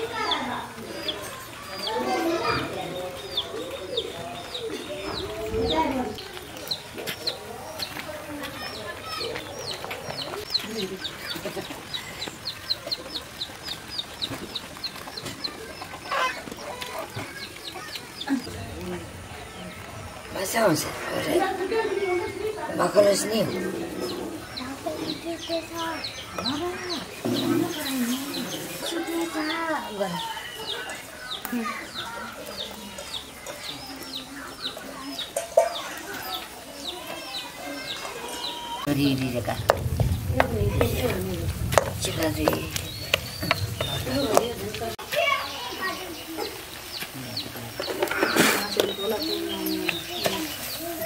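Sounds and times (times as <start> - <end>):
chicken clucking: 0.0 - 20.0, 20.6 - 45.0
chicks peeping: 0.0 - 51.0.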